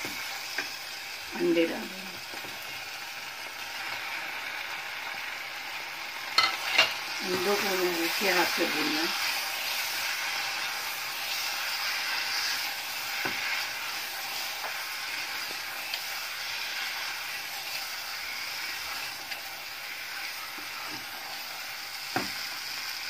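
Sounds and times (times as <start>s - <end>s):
masala sizzling in a pot: 0.0s - 23.0s.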